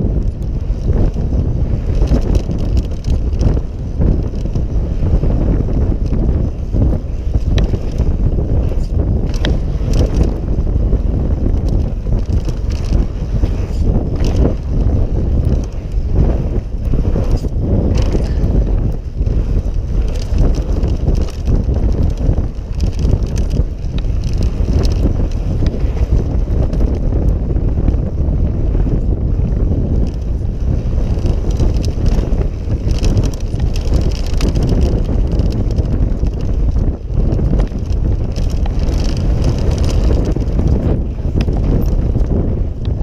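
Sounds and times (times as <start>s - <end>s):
bike knocks and rattles: 0.0s - 43.0s
tyres rumbling on dirt: 0.0s - 43.0s
wind buffeting microphone: 0.0s - 43.0s.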